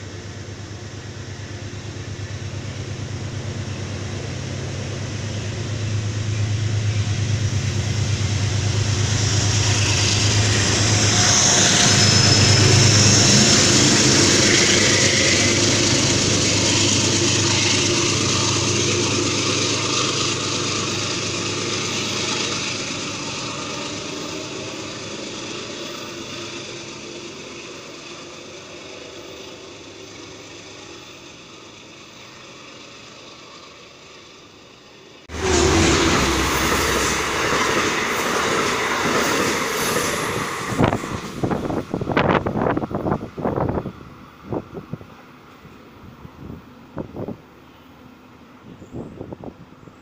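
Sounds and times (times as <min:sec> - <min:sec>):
locomotive engine hum: 0:00.0 - 0:50.0
train wheels on rails: 0:00.0 - 0:50.0.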